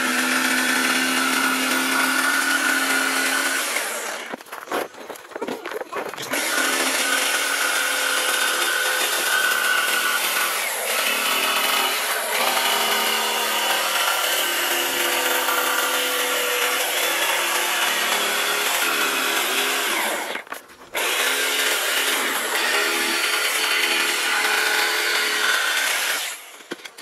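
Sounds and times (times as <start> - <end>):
jigsaw cutting wood: 0.0 - 4.4, 5.3 - 27.0.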